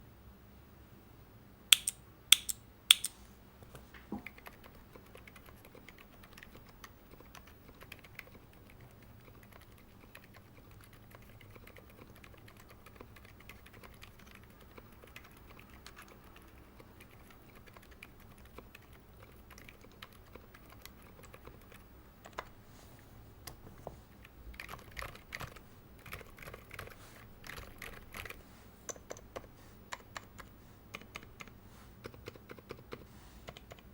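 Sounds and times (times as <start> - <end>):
mechanical keyboard typing: 1.8 - 3.2, 4.2 - 22.5, 24.2 - 33.9.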